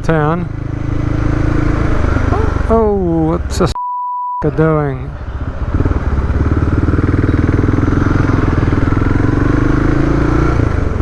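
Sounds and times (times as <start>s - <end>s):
motorcycle engine running: 0.0s - 3.7s, 4.5s - 11.0s.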